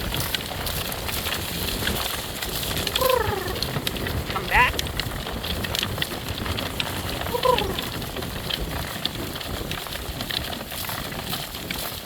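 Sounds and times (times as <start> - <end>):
cart wheels rolling on dirt: 0.0 - 12.0
horse hoofbeats: 0.0 - 12.0.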